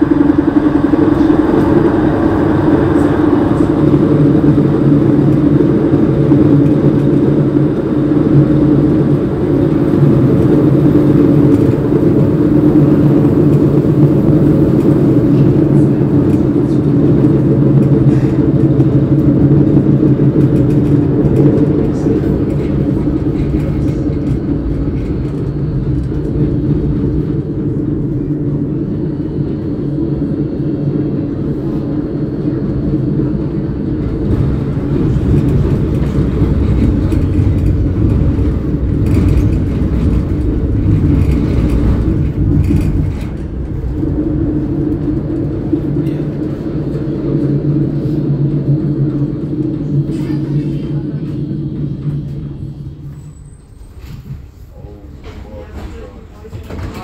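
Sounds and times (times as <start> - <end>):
low rumble: 0.0 - 54.1
tram electrical hum: 0.0 - 57.0.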